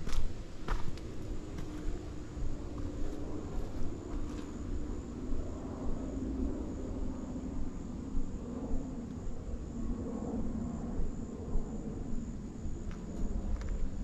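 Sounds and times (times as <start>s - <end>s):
faint high insect drone: 0.0s - 14.0s.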